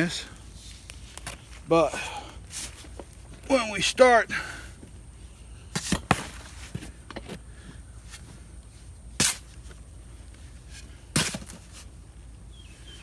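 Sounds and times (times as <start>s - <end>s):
soil rustling: 0.0s - 4.3s, 5.0s - 13.0s.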